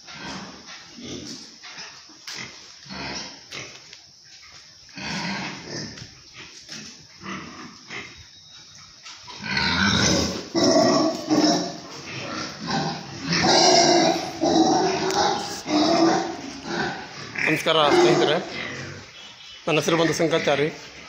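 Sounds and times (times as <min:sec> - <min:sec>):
pigs grunting and squealing: 0:00.0 - 0:03.8, 0:04.9 - 0:21.0.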